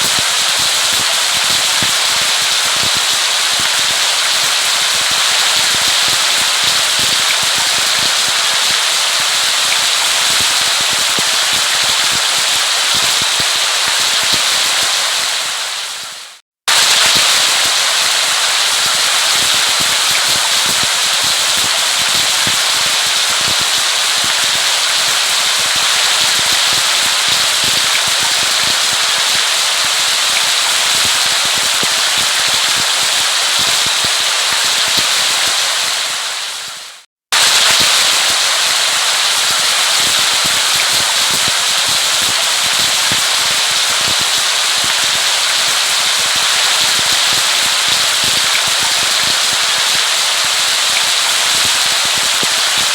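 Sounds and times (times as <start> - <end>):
heavy rain on hard surface: 0.0 - 52.9.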